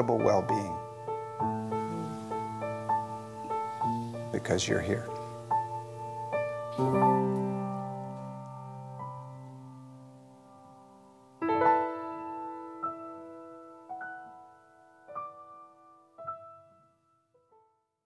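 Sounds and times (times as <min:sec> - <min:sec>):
slow solo piano music: 0:00.0 - 0:17.8.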